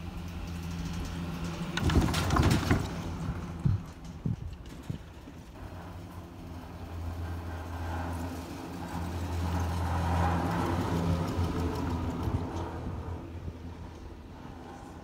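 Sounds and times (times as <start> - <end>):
chairlift rope running over rollers: 0.0 - 15.0.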